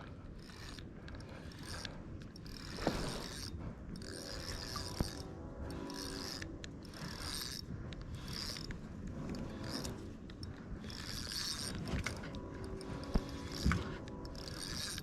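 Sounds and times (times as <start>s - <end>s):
fishing reel gears whirring: 0.0s - 15.0s.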